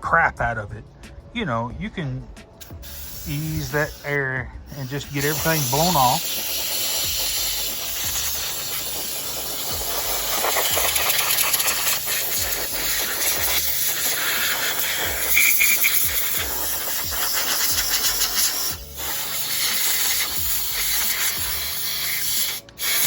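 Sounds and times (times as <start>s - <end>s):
compressed air blow gun hissing: 2.6s - 23.0s.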